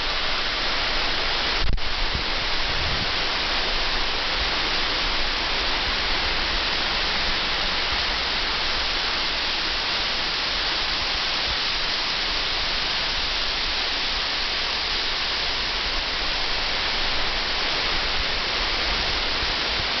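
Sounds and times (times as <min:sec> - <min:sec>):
waterfall into pool: 0:00.0 - 0:20.0.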